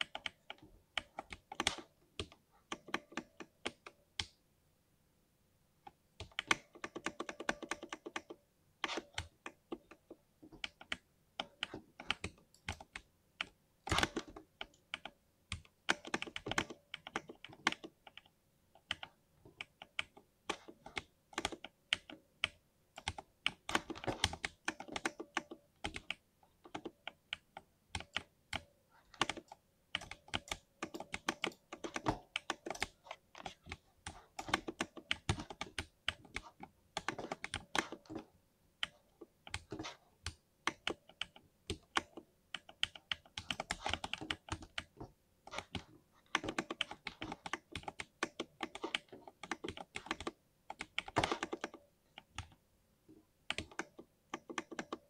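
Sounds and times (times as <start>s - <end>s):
mechanical keyboard typing: 0.0s - 4.3s, 6.2s - 52.6s, 53.5s - 55.0s.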